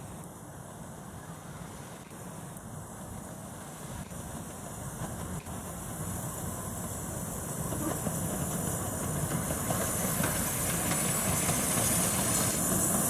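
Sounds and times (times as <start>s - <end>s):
steam locomotive hissing: 0.0s - 13.0s
train wheels on rails: 0.0s - 13.0s.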